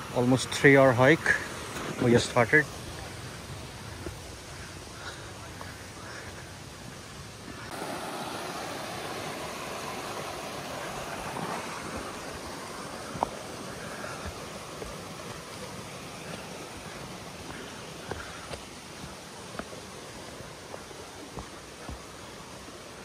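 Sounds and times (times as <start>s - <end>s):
rushing wind: 0.0s - 23.0s.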